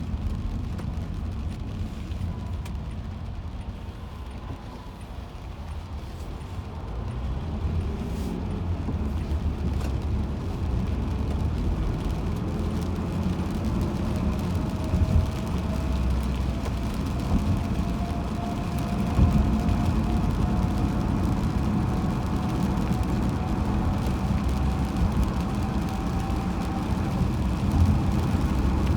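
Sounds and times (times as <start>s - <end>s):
car tyres and engine rumble: 0.0s - 28.9s.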